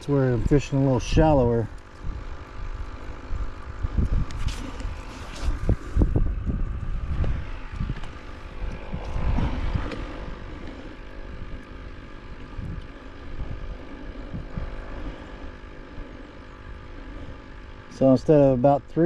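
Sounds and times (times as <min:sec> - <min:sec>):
wind buffeting microphone: 0:00.0 - 0:18.4
distant engine droning: 0:00.0 - 0:19.0.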